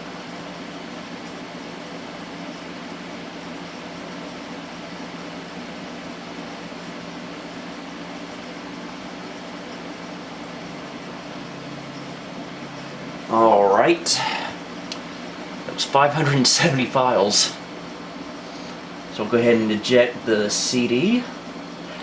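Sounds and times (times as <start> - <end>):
computer fans and drives humming: 0.0 - 22.0.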